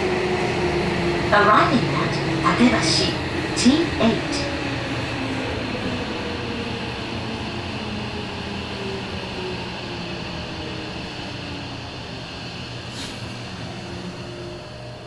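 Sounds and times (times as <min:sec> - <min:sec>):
subway wheels and motors rumble: 0:00.0 - 0:15.0.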